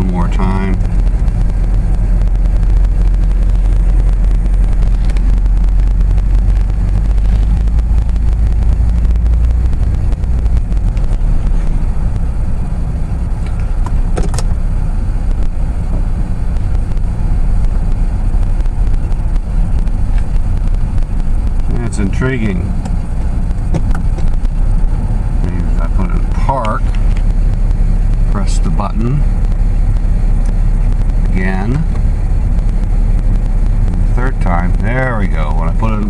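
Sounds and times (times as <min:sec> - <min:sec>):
engine and road rumble in cabin: 0:00.0 - 0:36.0.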